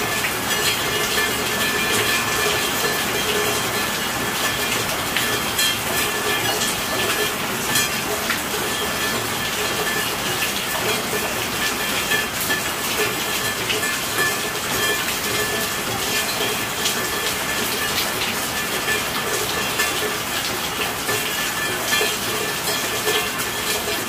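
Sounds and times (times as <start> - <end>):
rain drops ticking sharply: 0.0 - 24.0
steady rain hiss: 0.0 - 24.0.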